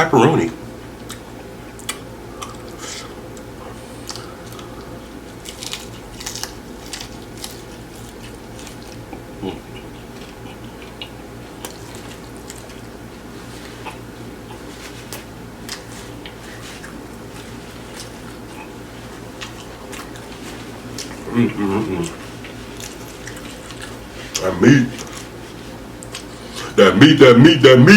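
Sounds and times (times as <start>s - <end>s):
steady low hum: 0.0s - 27.9s
person chewing crunchy food: 0.9s - 26.8s.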